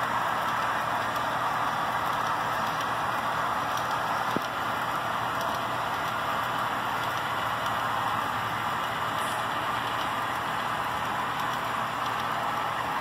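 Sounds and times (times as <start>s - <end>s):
model train wheels rolling: 0.0s - 13.0s.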